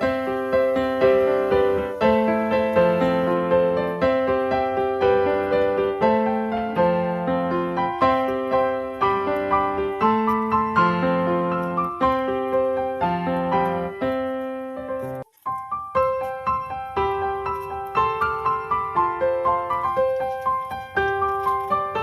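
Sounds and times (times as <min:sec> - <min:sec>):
piano melody: 0:00.0 - 0:22.0.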